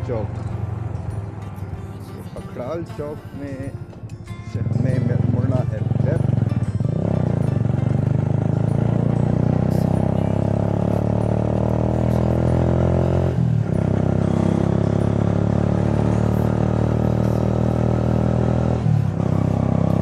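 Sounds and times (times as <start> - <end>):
motorcycle engine running: 0.0 - 3.6, 4.4 - 20.0.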